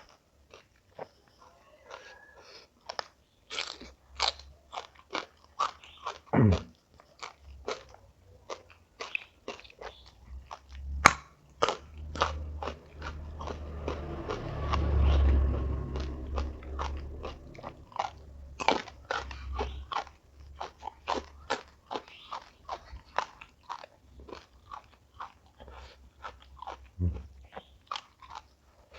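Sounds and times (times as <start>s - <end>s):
crunching and chewing crisp food: 0.0s - 28.9s.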